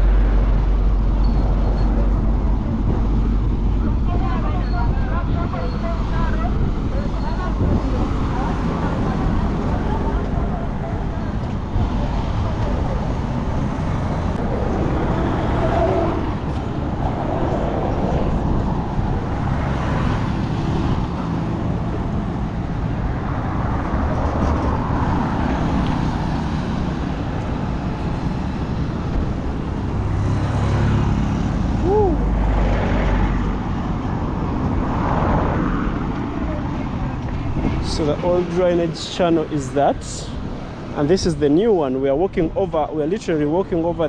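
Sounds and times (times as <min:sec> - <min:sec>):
heavy vehicle rumbling past: 0:00.0 - 0:41.2
road traffic: 0:00.0 - 0:44.0.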